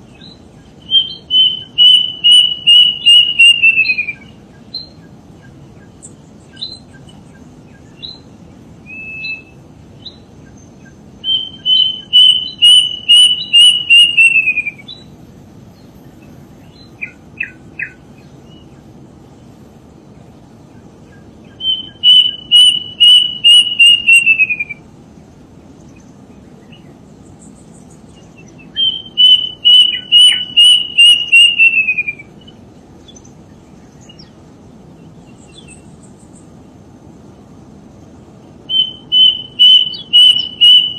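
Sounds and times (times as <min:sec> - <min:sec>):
bird of paradise calling: 0:00.0 - 0:36.9, 0:38.0 - 0:40.9.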